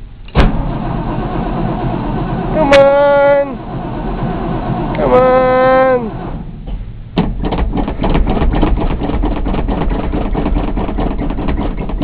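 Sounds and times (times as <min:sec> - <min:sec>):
engine starter cranking: 0:00.2 - 0:12.0.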